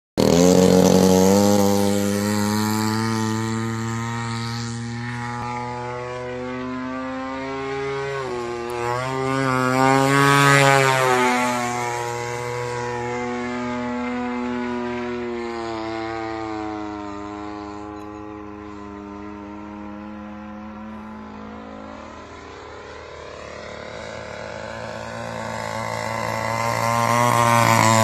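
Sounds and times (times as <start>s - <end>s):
model plane motor droning: 0.2s - 28.0s.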